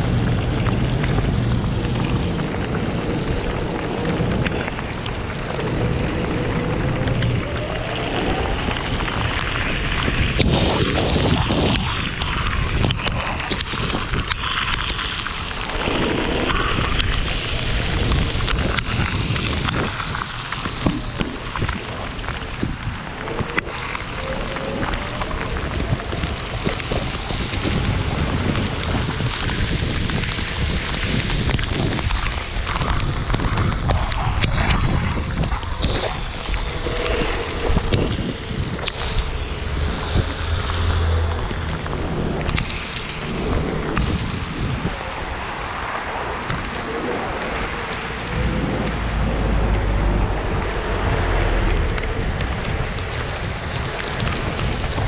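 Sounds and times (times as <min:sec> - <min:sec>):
heavy rain: 0:00.0 - 0:55.0
wind buffeting microphone: 0:00.0 - 0:55.0.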